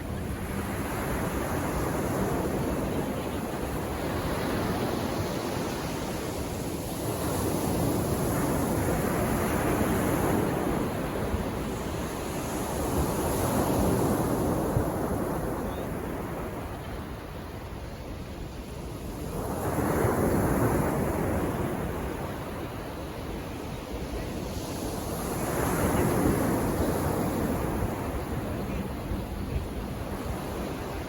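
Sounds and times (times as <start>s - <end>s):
sea waves washing onto beach: 0.0s - 31.0s.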